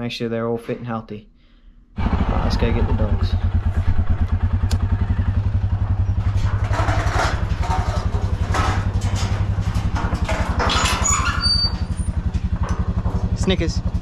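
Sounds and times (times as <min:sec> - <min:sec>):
motorbike engine idling: 0:02.0 - 0:14.0.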